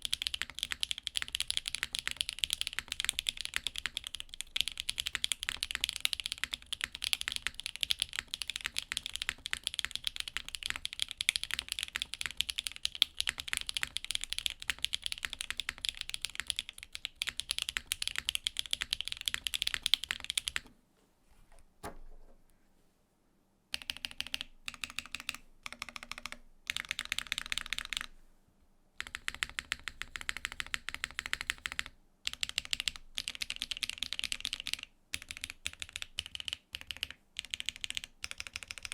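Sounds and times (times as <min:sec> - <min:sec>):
mechanical keyboard typing: 0:00.0 - 0:20.7, 0:23.7 - 0:28.1, 0:29.0 - 0:38.9.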